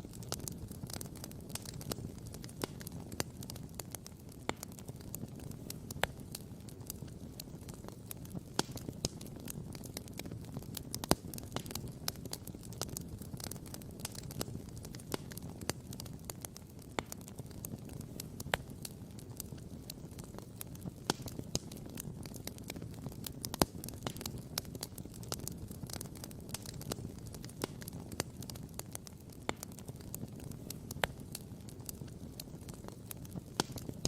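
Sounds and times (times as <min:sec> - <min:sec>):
campfire crackling and popping: 0:00.0 - 0:34.0
low fire rumble: 0:00.0 - 0:34.0.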